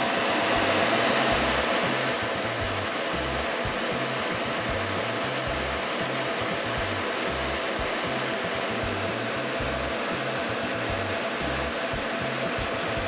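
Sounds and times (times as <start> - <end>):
fans blowing air: 0.0 - 13.0
low motor hum: 0.0 - 13.0.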